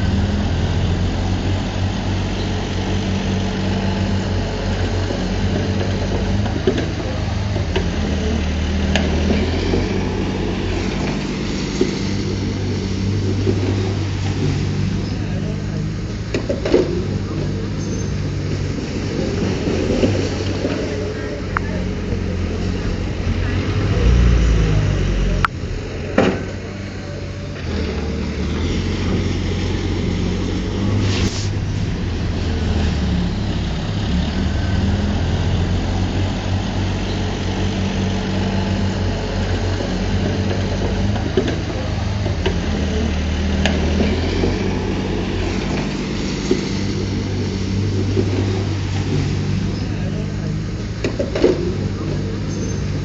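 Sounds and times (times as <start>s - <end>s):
heavy machinery diesel engine: 0.0s - 53.0s.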